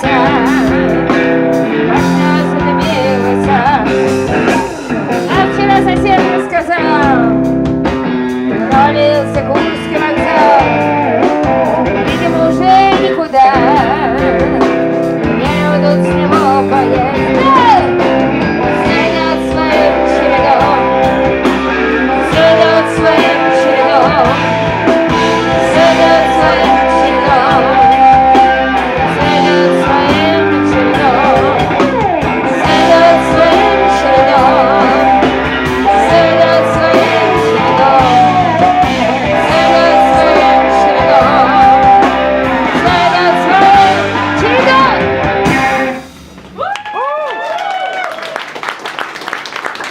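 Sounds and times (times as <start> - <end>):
person singing: 0.0 - 7.5, 8.5 - 46.0
blues-rock band playing: 0.0 - 46.7
electric guitar: 0.0 - 49.9.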